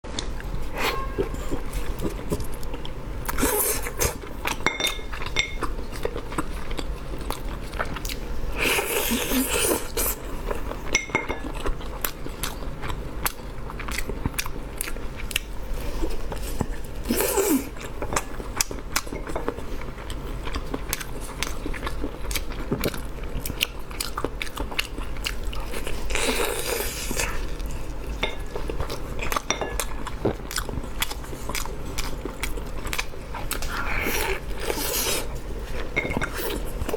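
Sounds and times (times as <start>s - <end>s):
person chewing food: 0.1s - 36.9s.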